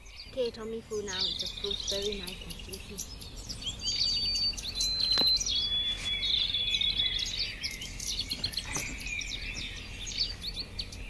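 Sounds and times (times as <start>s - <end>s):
whistled bird notes: 0.0s - 11.0s
wild birds chirping and singing: 0.0s - 11.0s.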